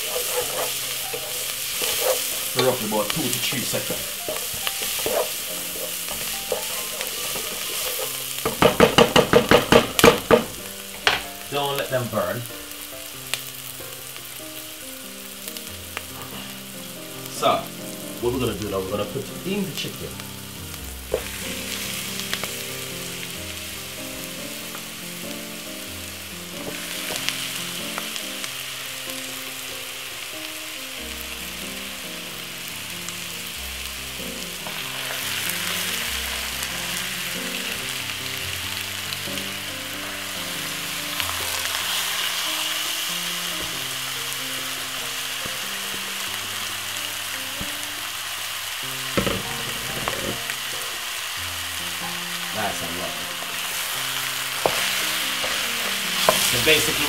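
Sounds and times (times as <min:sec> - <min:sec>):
food sizzling in hot oil: 0:00.0 - 0:57.0
soft background music: 0:00.0 - 0:57.0.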